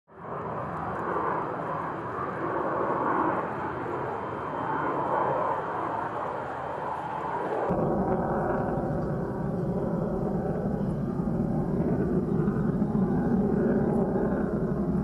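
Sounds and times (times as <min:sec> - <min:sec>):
jet engine roar: 0:00.1 - 0:15.0.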